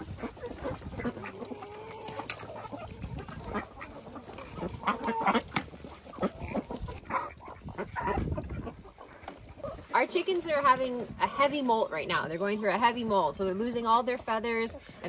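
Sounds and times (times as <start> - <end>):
poultry squawking: 0.0 - 12.5.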